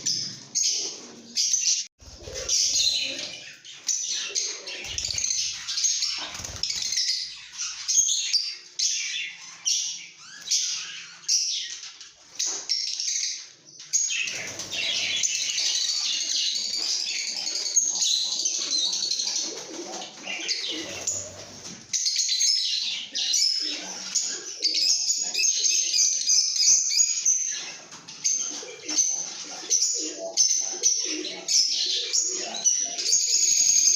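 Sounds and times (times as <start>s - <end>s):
flock of birds chirping: 0.0s - 33.9s.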